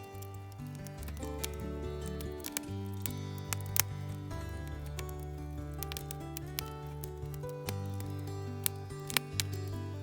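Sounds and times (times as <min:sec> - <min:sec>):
sharp clicks: 0:00.0 - 0:09.8
slow chord music with bass: 0:00.0 - 0:10.0.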